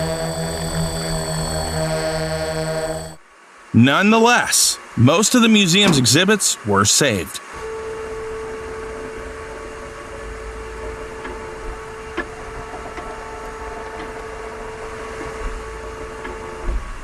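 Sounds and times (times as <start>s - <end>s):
low rumble and hiss: 0.0s - 17.0s
steady mechanical hum: 0.0s - 17.0s.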